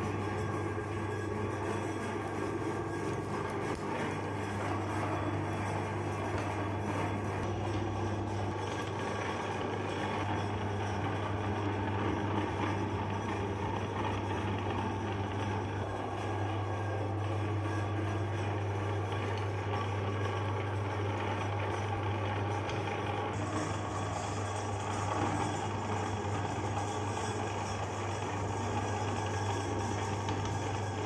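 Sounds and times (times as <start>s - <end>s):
meat grinder motor running: 0.0s - 31.0s.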